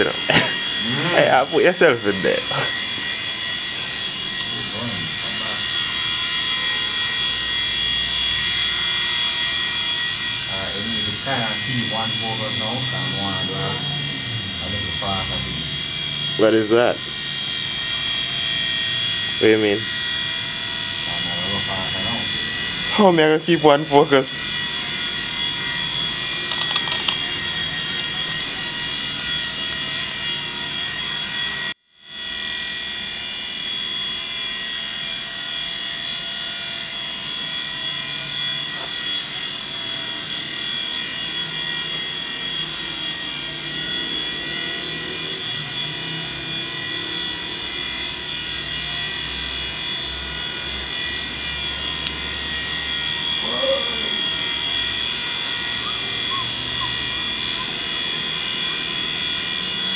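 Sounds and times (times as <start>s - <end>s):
toy helicopter rotor whine: 0.0s - 59.9s.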